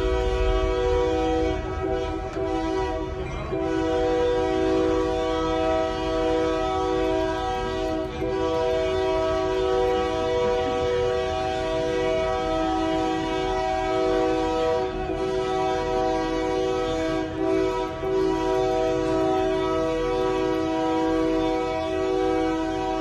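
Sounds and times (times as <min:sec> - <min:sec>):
train air horn chord: 0:00.0 - 0:23.0
train rumbling on track: 0:00.0 - 0:23.0.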